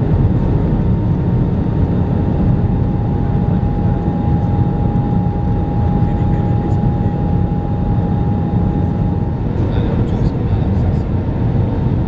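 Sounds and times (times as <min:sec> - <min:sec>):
engine and airflow rush: 0:00.0 - 0:12.0
thin steady whine: 0:01.0 - 0:12.0.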